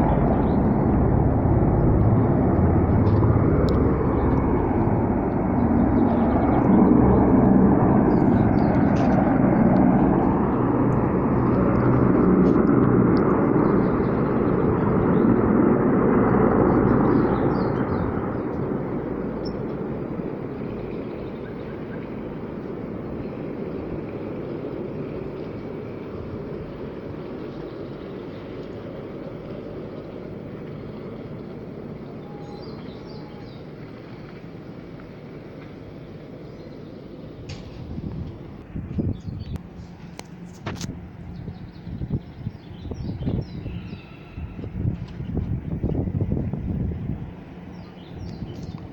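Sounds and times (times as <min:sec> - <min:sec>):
aircraft engine noise: 0:00.0 - 0:48.9
low hum: 0:00.0 - 0:48.9.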